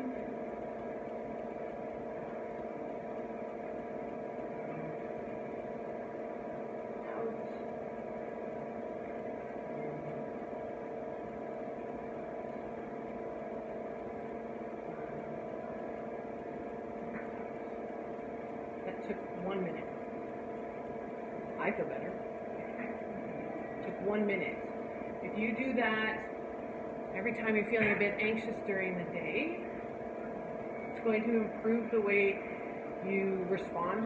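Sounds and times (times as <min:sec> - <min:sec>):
mechanical room hum: 0:00.0 - 0:34.0.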